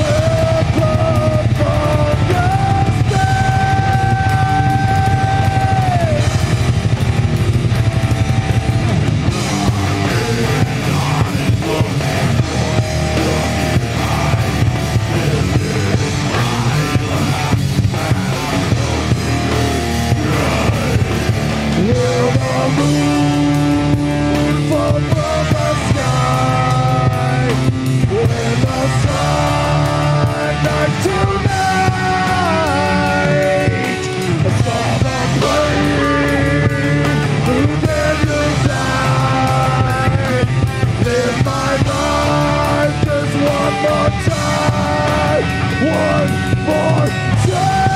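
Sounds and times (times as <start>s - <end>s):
drums playing: 0.0s - 47.9s
electric guitars: 0.0s - 47.9s
rock band playing: 0.0s - 47.9s.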